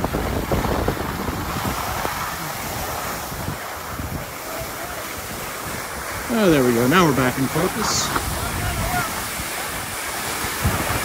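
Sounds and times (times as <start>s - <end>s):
skis sliding over snow: 0.0s - 11.0s
wind noise on microphone: 0.0s - 11.0s.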